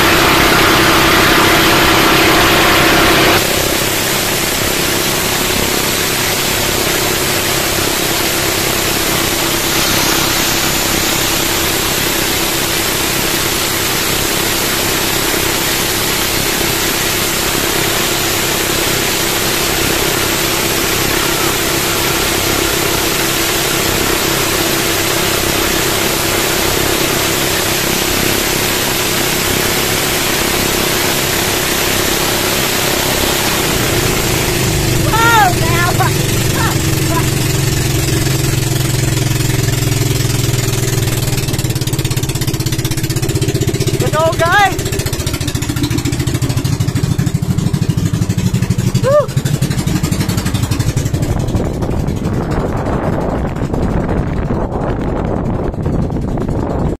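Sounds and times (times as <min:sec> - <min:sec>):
water rushing: 0:00.0 - 0:54.8
boat engines running: 0:00.0 - 0:56.9
wind: 0:00.0 - 0:56.9.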